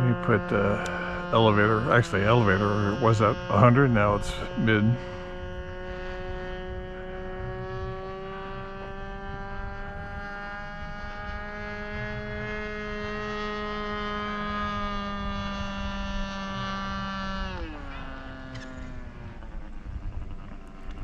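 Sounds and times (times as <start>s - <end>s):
model airplane engine droning: 0.0s - 21.0s.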